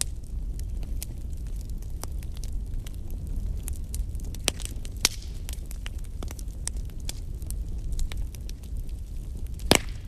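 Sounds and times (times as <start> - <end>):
burning wood crackling: 0.0 - 10.0.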